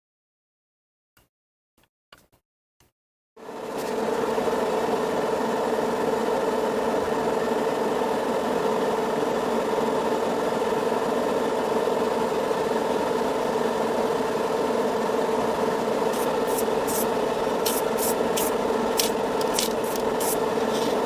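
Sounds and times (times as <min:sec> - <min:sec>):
mechanical engine-like hum: 0:03.4 - 0:21.0.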